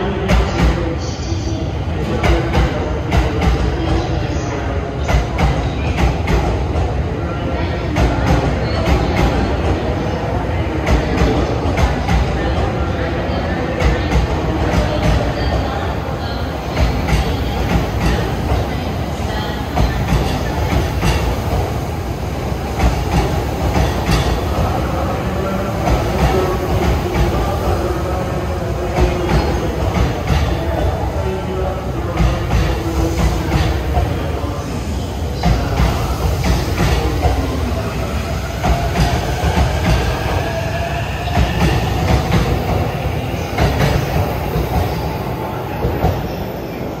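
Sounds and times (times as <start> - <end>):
electric train rumbling past: 0.0 - 47.0.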